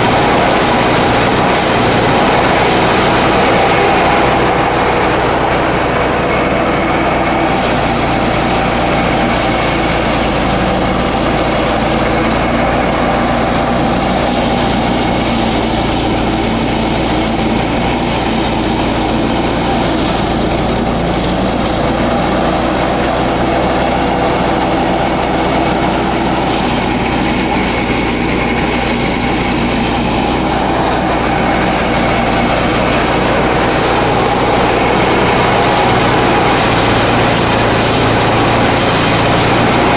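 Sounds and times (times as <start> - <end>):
rice thresher engine running: 0.0 - 39.9.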